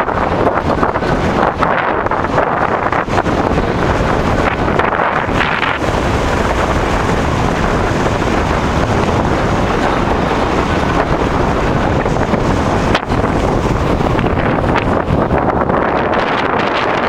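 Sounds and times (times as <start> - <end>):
rough sea surging: 0.0 - 17.0
wind buffeting microphone: 0.0 - 17.0.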